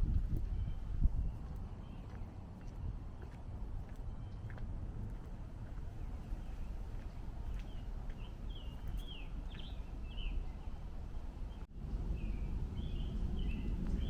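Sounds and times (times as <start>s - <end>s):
low rumble: 0.0s - 14.0s
songbird chirping: 0.1s - 14.0s.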